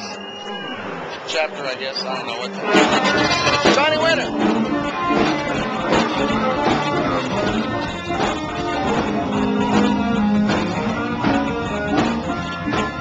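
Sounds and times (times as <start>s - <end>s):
blues-rock band playing: 2.5s - 13.0s.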